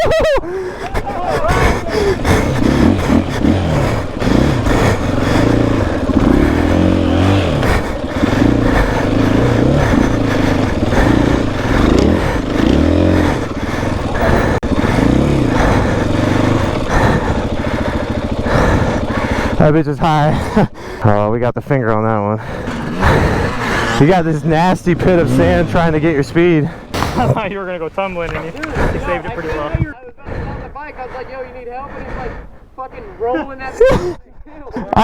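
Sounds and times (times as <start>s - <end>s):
dirt bike engine revving: 0.0s - 21.0s, 22.4s - 30.0s.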